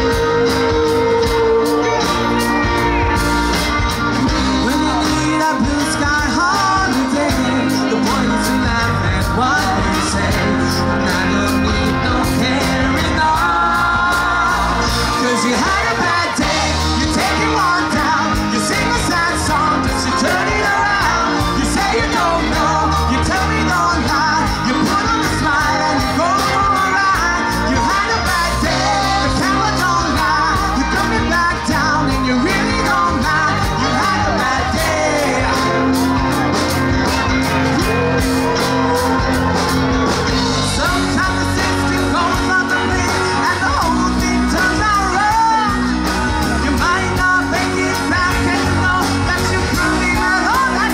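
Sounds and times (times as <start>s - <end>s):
lead singer singing: 0.0s - 50.9s
live band playing: 0.0s - 50.9s.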